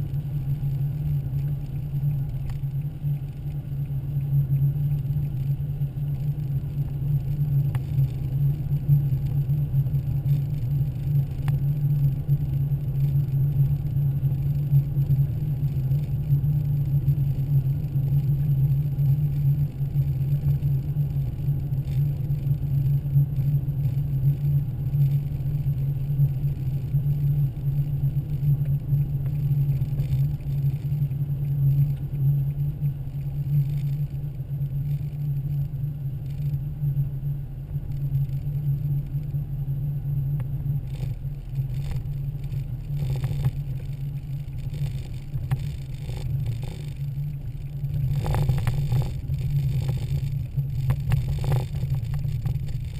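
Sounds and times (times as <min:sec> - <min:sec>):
car interior road drone: 0:00.0 - 0:52.9.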